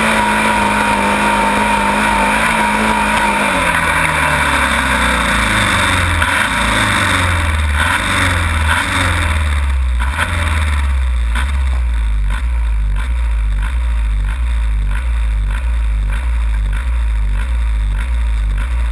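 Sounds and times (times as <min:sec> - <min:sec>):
tractor engine idling: 0:00.0 - 0:18.9.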